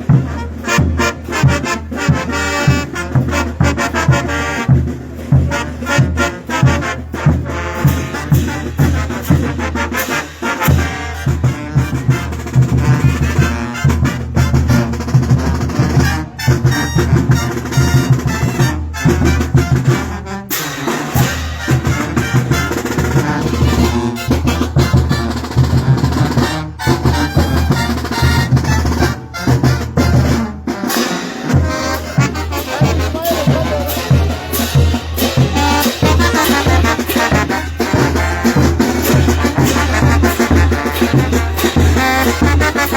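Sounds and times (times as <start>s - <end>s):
brass band playing loudly: 0.0s - 42.9s.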